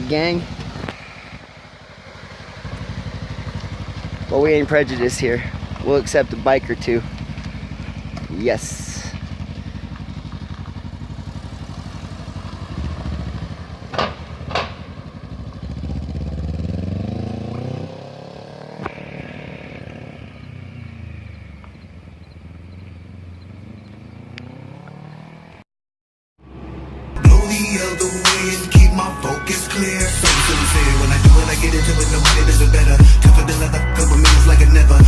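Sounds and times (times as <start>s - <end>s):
engine idling and revving: 0.0s - 25.6s, 26.4s - 35.0s.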